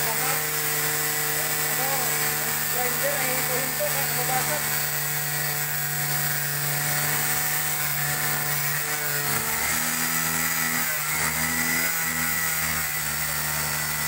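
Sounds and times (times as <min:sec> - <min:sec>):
angle grinder cutting plastic: 0:00.0 - 0:14.0.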